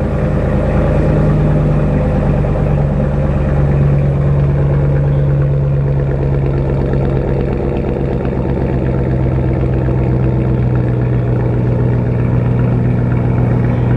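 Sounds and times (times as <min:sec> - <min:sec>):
pickup truck engine idling: 0:00.0 - 0:13.9.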